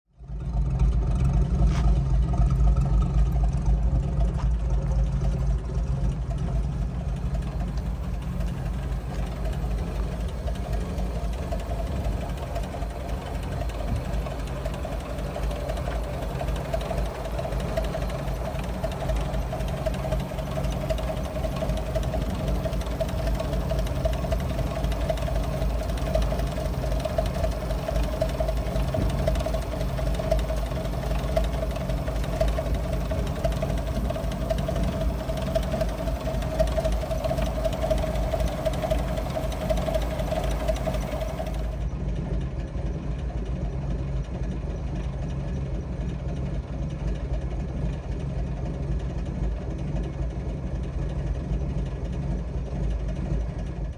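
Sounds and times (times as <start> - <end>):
car engine idling: 0.1 - 53.9.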